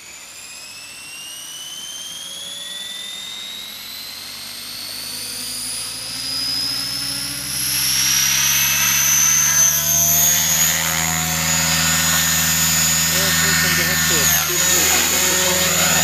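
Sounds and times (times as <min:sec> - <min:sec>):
high whine rising in pitch: 0:00.0 - 0:16.0
low rotor hum: 0:00.0 - 0:16.0.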